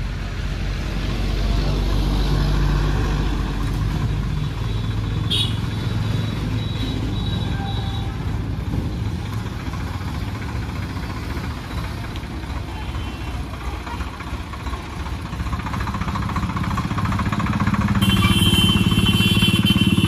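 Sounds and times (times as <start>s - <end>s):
road traffic passing: 0.0s - 20.0s
tractor diesel engine idling: 3.4s - 20.0s.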